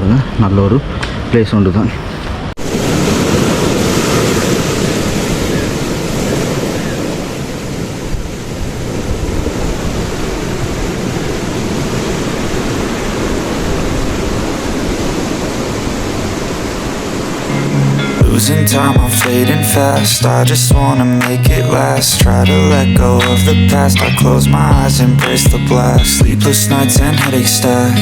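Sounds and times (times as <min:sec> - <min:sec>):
surf breaking on rocky shore: 0:00.9 - 0:25.9.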